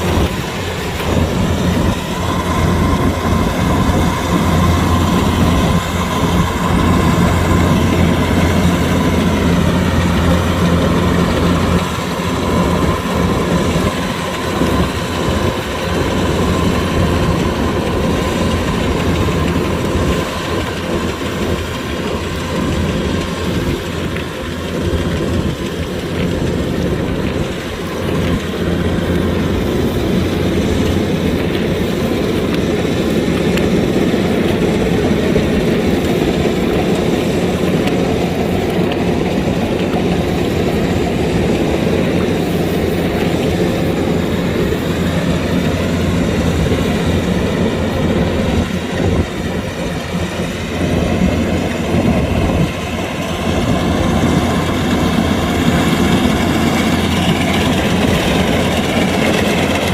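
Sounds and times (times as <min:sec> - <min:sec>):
combine harvester rumble and clatter: 0:00.0 - 0:59.9.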